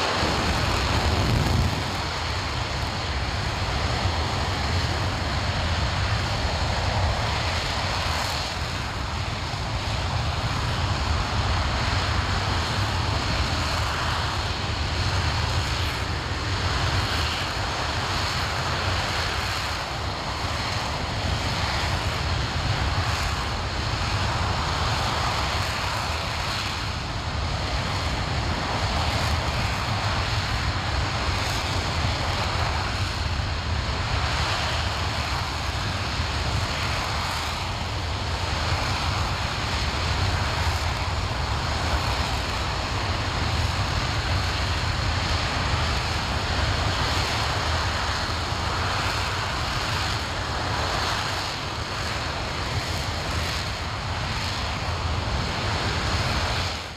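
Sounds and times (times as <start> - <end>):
rocket engine roaring: 0.0 - 56.9.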